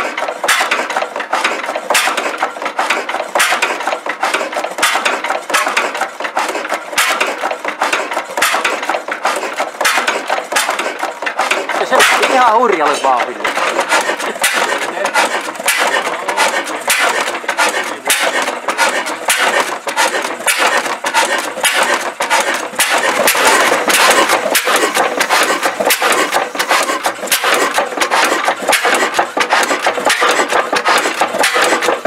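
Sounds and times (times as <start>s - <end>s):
machine clattering: 0.0s - 32.0s.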